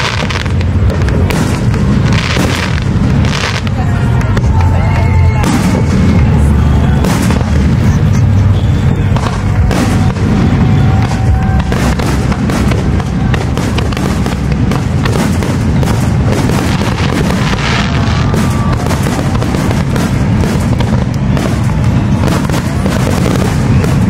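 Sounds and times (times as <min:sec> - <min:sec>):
firework bangs and crackles: 0:00.0 - 0:24.0
low rumble: 0:00.0 - 0:24.0.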